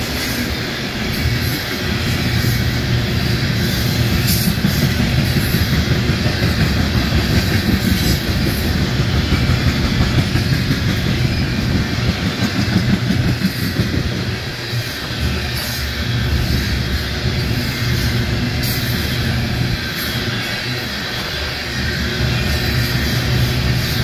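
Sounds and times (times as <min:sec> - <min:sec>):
freight train wheels rumbling: 0:00.0 - 0:24.0
wheels clacking over rail joints: 0:00.0 - 0:24.0.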